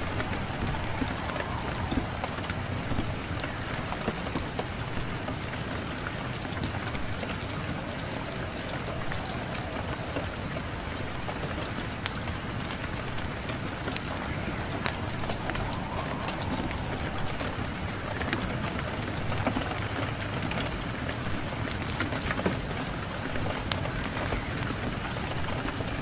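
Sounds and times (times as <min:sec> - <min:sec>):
wood fire crackling: 0:00.0 - 0:25.8
low wind noise: 0:00.0 - 0:26.0.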